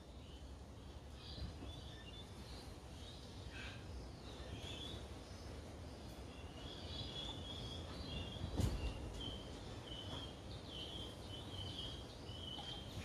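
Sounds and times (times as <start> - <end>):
faint high chirping: 0.0 - 13.0.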